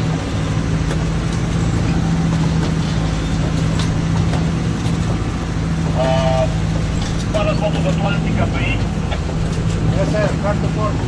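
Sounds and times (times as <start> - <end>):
boat engines droning: 0.0 - 11.0
water and wind rushing on hull: 0.0 - 11.0.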